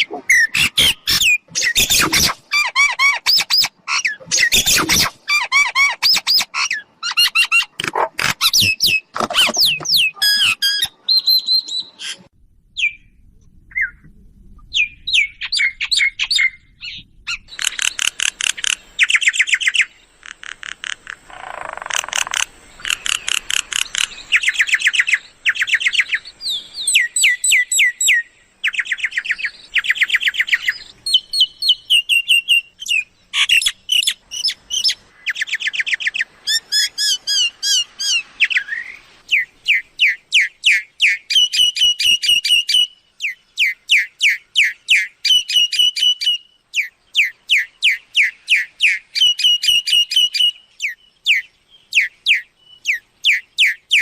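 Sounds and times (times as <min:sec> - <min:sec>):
myna chirping and whistling: 0:00.0 - 0:07.7, 0:08.4 - 0:12.2, 0:21.9 - 0:54.0.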